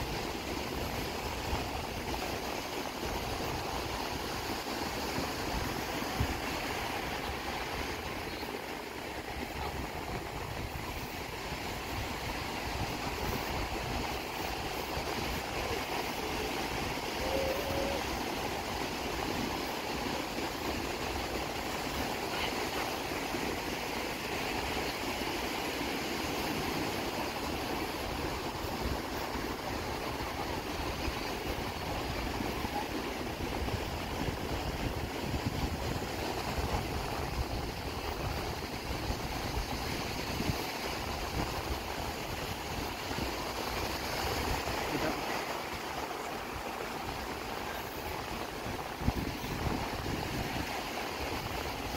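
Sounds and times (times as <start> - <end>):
ocean surf breaking: 0.0 - 51.9.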